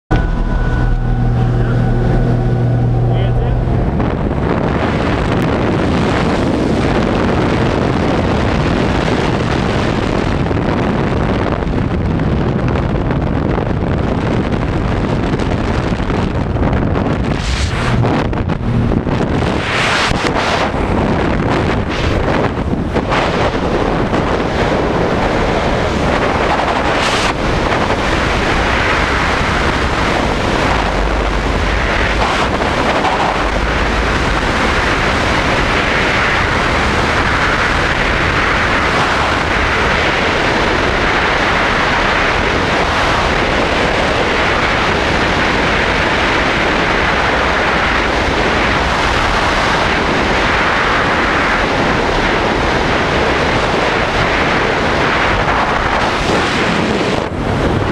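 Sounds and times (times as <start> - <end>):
wind buffeting microphone: 0.1 - 57.9.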